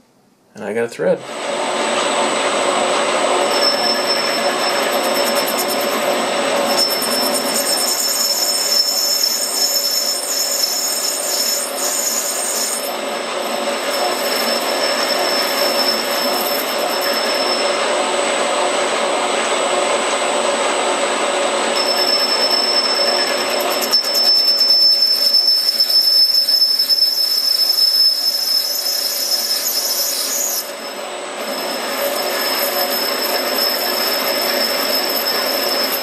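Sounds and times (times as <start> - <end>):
metal lathe cutting with squealing whine: 1.3 - 36.0
high-pitched ringing: 3.4 - 18.1, 21.7 - 36.0.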